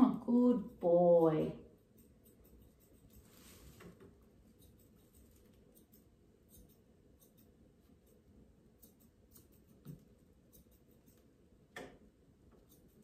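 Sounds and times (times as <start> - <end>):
scissors snipping hair: 0.0 - 3.4, 4.0 - 11.4, 12.5 - 13.0.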